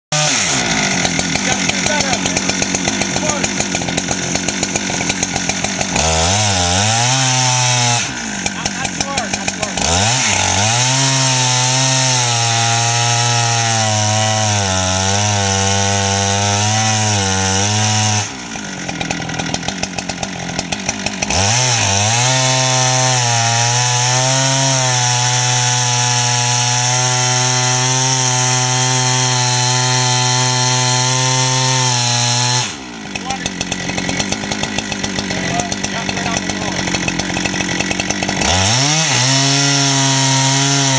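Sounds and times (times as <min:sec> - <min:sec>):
chainsaw cutting log: 0:00.1 - 0:40.9.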